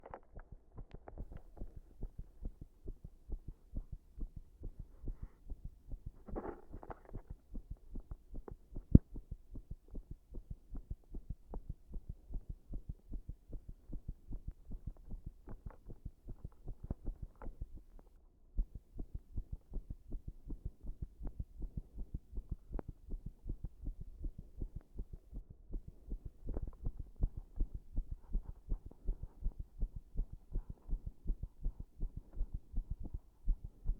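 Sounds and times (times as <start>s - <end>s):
heartbeat: 0.3s - 33.9s.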